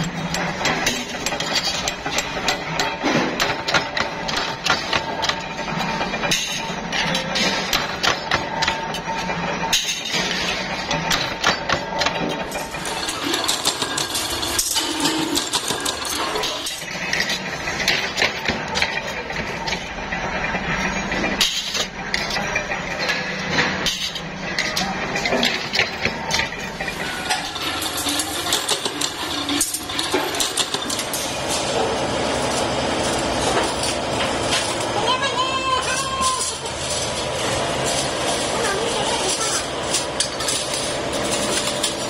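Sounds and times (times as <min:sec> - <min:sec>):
machinery humming: 0:00.0 - 0:42.0
steel discs clinking and clattering: 0:00.0 - 0:42.0.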